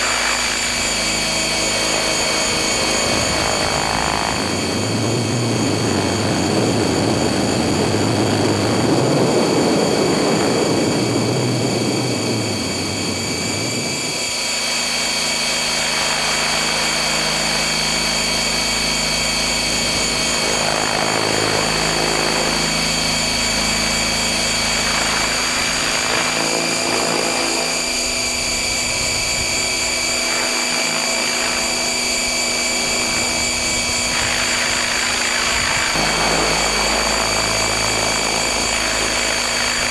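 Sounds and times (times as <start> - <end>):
rc helicopter motor whine: 0.0 - 39.9
rotor blades rushing: 0.0 - 39.9.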